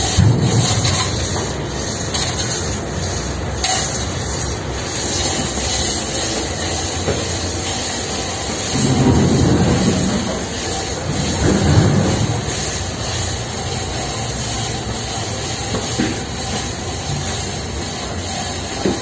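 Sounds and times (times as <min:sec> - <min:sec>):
ferry machinery rumble and hiss: 0:00.0 - 0:19.0.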